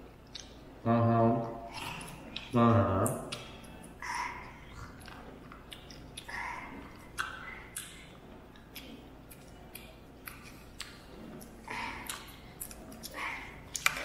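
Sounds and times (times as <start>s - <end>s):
person chewing with wet mouth clicks: 0.2s - 0.6s, 1.7s - 14.0s.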